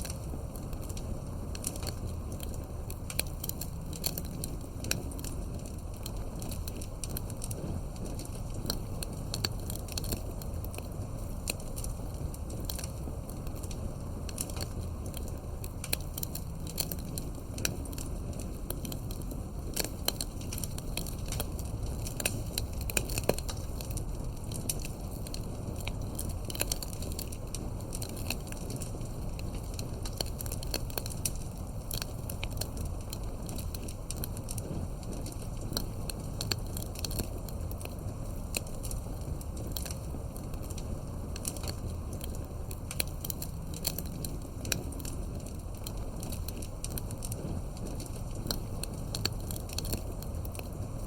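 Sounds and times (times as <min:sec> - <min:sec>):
campfire wood crackling and popping: 0:00.0 - 0:51.0
low fire rumble: 0:00.0 - 0:51.0.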